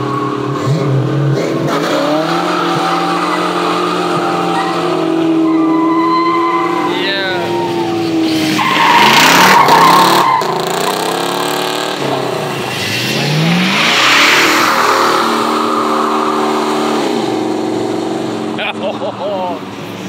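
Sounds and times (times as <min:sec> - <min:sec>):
car engine revving hard: 0:00.0 - 0:07.0, 0:07.9 - 0:19.2.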